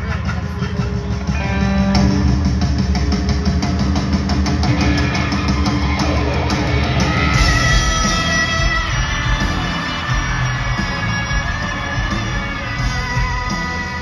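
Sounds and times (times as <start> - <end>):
drum kit: 0.0 - 14.0
electric guitars: 0.0 - 14.0.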